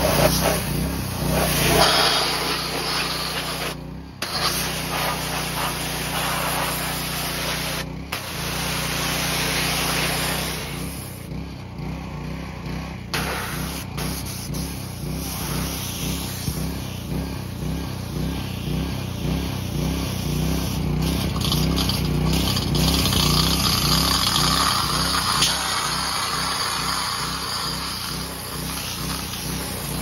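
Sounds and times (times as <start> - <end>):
pressure washer running: 0.0 - 30.0.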